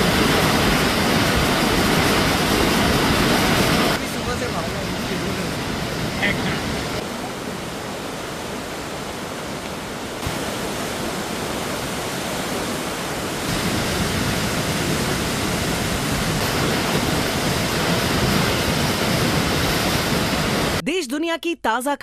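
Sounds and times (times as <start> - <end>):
floodwater rushing: 0.0 - 20.8.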